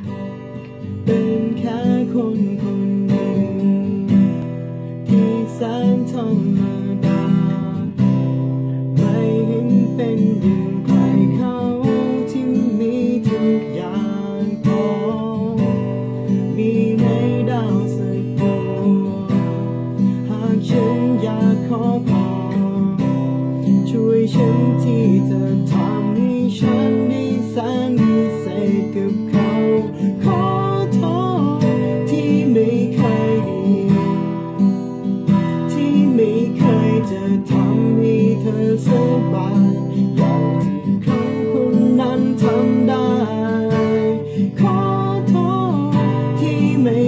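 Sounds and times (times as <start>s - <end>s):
acoustic guitar strumming: 0.0s - 47.0s.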